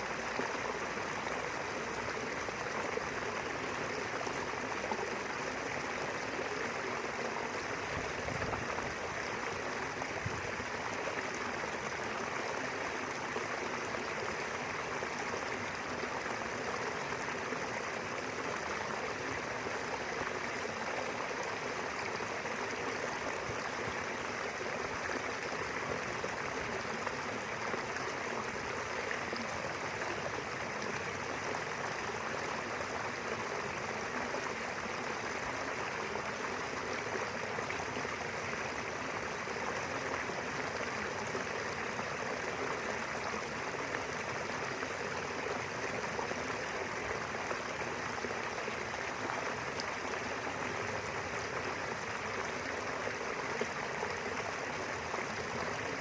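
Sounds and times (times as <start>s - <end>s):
stream flowing over its bed: 0.0s - 56.0s.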